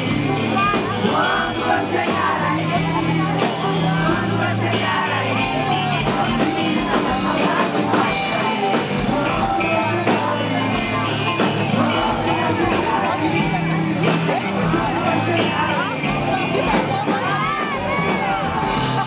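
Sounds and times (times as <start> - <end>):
drums and percussion: 0.0 - 19.0
electric guitar: 0.0 - 19.0
man singing into microphone: 0.0 - 19.0.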